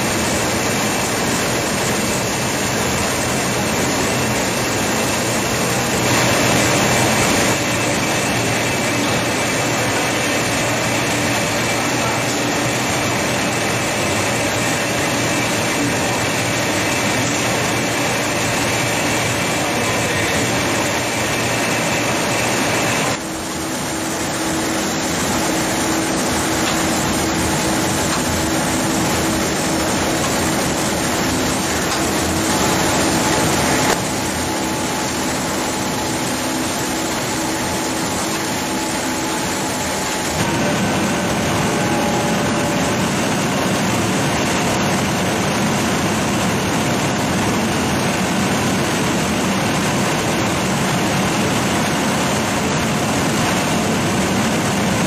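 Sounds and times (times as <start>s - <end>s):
industrial machinery hum: 0.0s - 55.0s.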